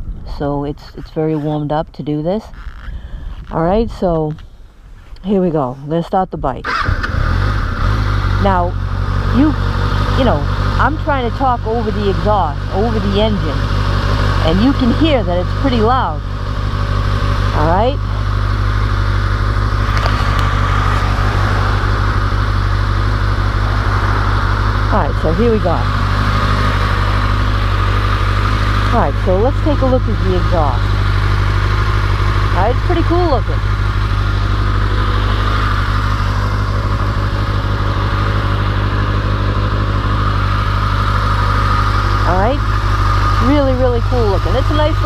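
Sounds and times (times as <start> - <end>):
motorcycle engine idling: 6.7 - 45.0.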